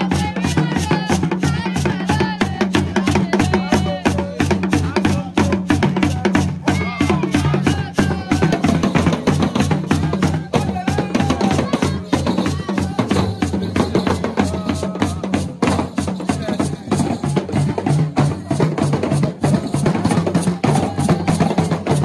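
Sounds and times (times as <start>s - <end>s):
hand drum ensemble fast rhythm: 0.0s - 22.0s.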